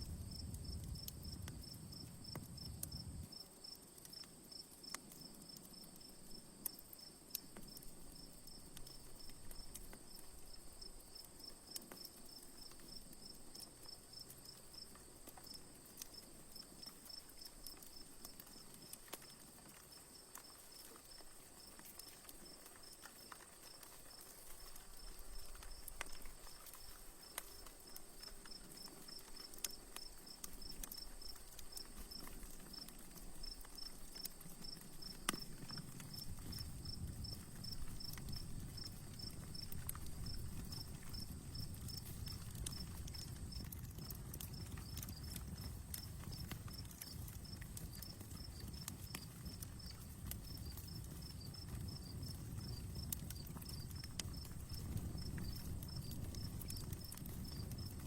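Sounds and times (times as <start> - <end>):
campfire crackling: 0.0 - 58.0
crickets chirping: 0.0 - 58.0.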